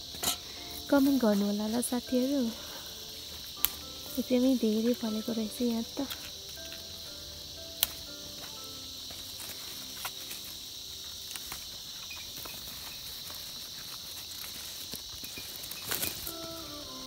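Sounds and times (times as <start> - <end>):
insects chirring: 0.0 - 17.0
leaves and vines rustling: 0.0 - 17.0.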